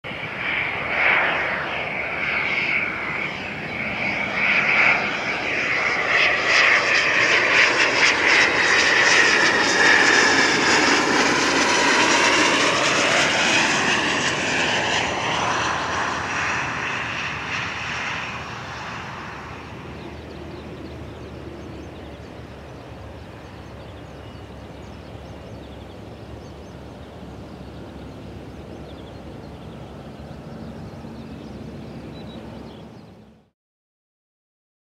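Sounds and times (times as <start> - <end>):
jet engines whining overhead: 0.1 - 33.5.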